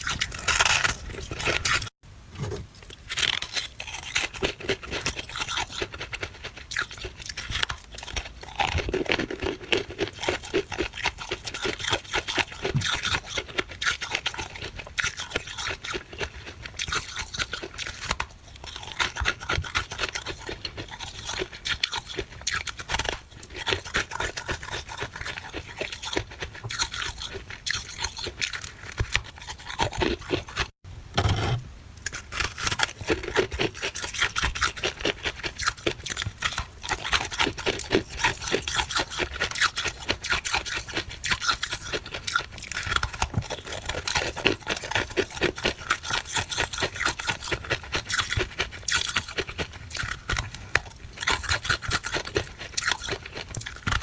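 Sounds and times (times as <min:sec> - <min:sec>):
chewing crunchy frost: 0:00.0 - 0:54.0.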